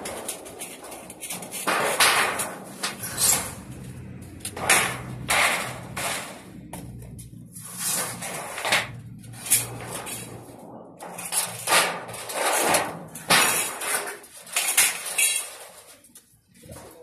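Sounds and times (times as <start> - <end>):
metal panels clattering and scraping: 0.0 - 17.0.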